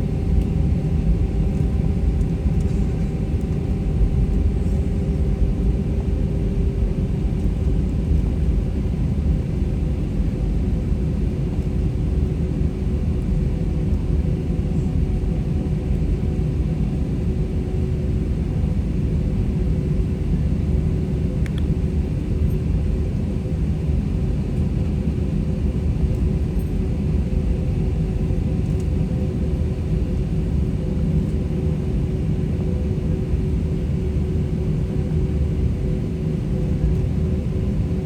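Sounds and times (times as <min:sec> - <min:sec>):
jet airliner cabin rumble: 0:00.0 - 0:38.0.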